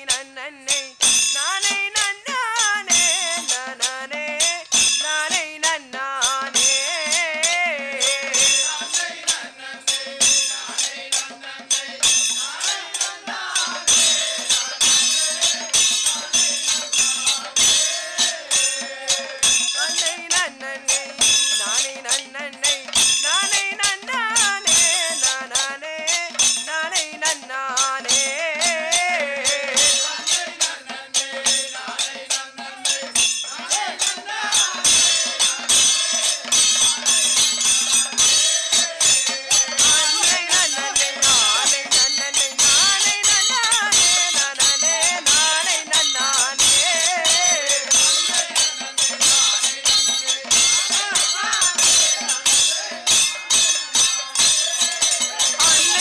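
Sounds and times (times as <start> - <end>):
hand drum beat: 0.0 - 56.0
men singing: 0.0 - 56.0
small cymbals ringing: 0.0 - 56.0.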